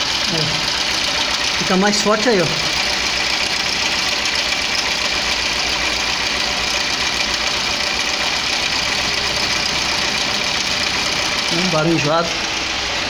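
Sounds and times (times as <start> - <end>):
car engine idling with metallic rattle: 0.0 - 13.0.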